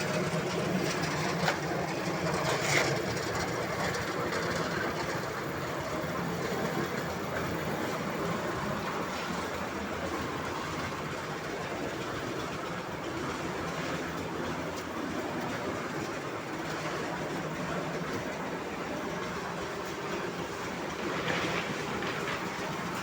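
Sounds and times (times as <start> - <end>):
concrete mixer drum churning: 0.0 - 23.0.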